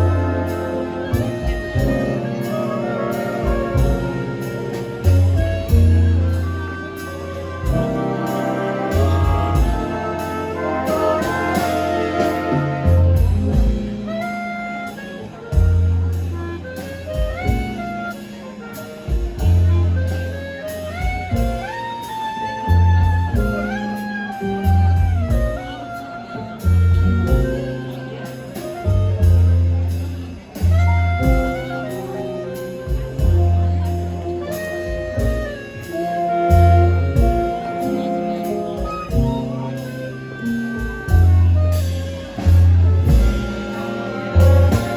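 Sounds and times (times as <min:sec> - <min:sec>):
jazz orchestra playing slow tune: 0:00.0 - 0:44.9.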